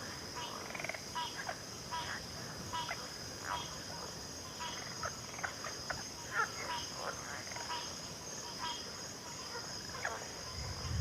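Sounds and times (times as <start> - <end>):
frogs calling: 0.0 - 11.0
high insect trill: 0.1 - 11.0.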